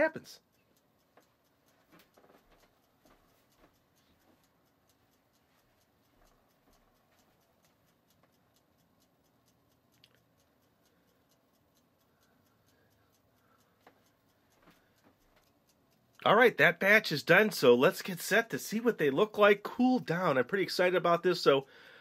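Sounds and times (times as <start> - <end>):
kitchen timer ticking: 0.0 - 22.0.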